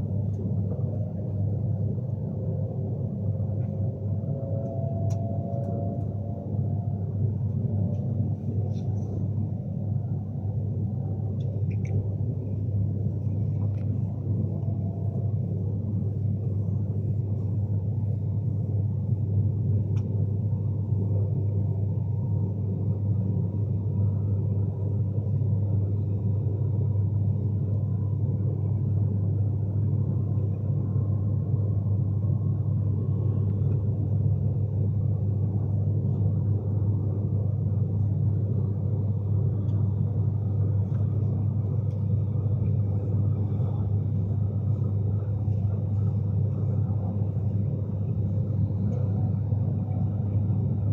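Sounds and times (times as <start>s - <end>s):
electric train rumbling: 0.0s - 50.9s
faint steady hum: 0.0s - 50.9s.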